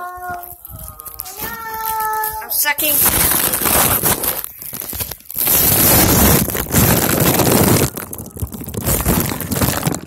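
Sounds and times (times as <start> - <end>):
foil balloon crinkling on microphone: 0.0 - 10.0.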